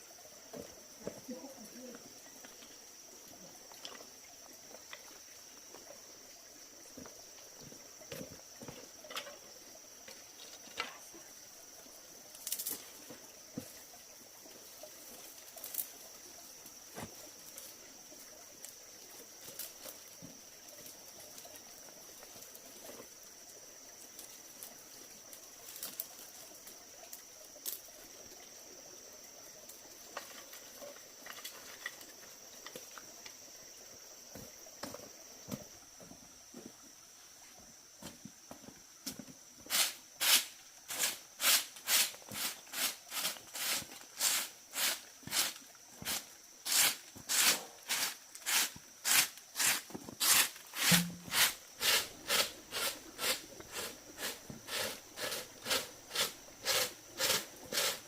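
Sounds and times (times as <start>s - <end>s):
insects buzzing: 0.0s - 58.0s.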